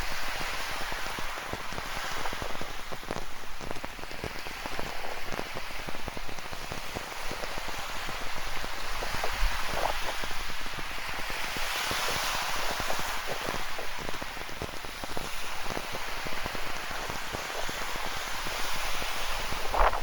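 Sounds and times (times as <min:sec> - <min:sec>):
ocean surf: 0:00.0 - 0:20.0
rain hiss: 0:00.0 - 0:20.0.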